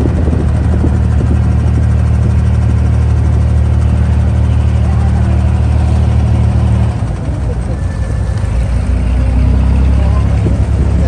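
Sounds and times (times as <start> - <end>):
boat diesel engine drone: 0.0 - 11.0.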